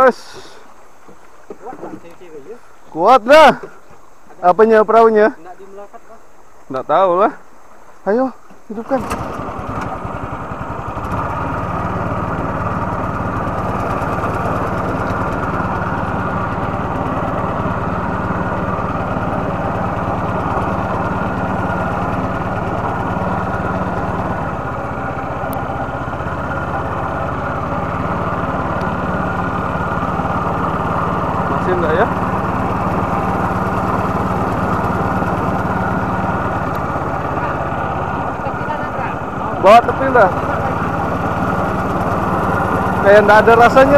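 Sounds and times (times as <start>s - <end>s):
small boat motor running: 0.0s - 43.9s.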